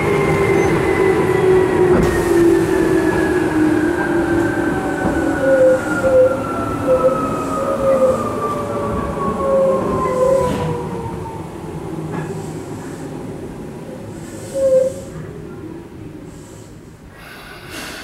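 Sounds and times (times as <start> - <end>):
wheels rumbling on rails: 0.0 - 16.9.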